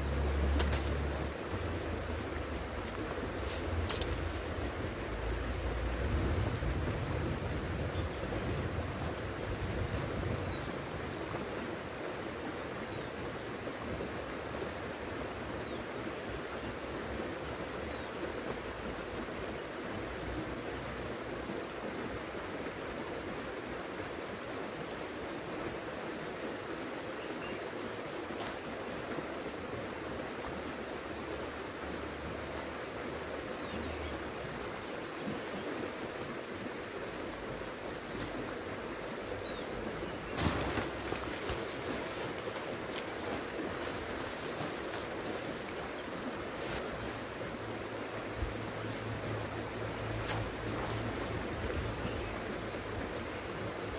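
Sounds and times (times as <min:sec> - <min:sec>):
river water rushing over stones: 0:00.0 - 0:53.9.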